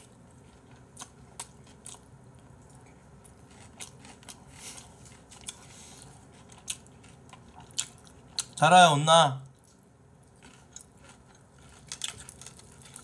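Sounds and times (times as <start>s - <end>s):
crunchy chewing: 0.0s - 8.6s, 9.5s - 13.0s.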